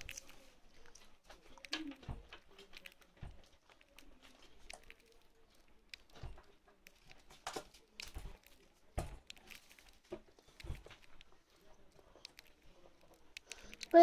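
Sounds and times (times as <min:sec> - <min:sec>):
bird pecking and cracking seeds: 0:00.0 - 0:14.0.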